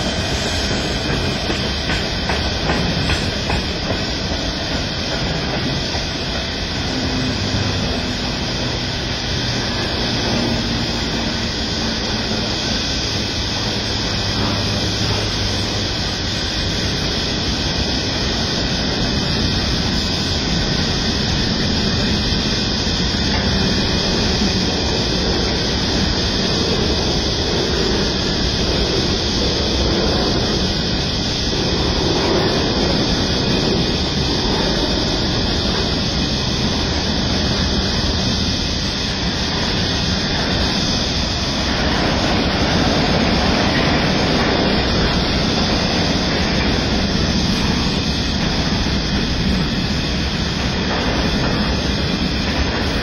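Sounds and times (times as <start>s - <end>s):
freight train wheels rumbling on track: 0.0s - 53.0s.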